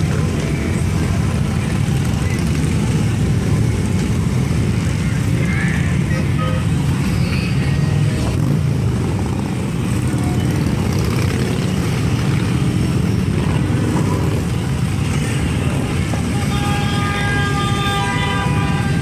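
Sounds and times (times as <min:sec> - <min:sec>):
motorcycles riding past: 0:00.0 - 0:19.0.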